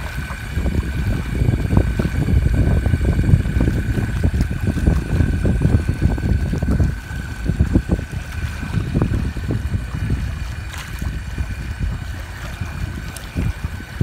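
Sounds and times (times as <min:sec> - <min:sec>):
electric motor whine: 0:00.0 - 0:14.0
water rushing along hull: 0:00.0 - 0:14.0
wind rumbling on microphone: 0:00.0 - 0:14.0.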